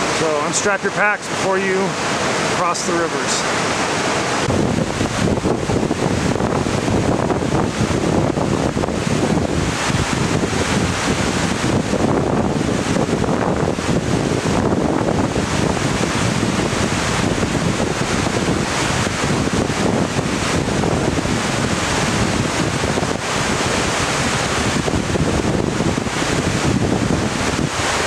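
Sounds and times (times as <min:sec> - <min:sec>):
whitewater rushing over rocks: 0:00.0 - 0:28.0.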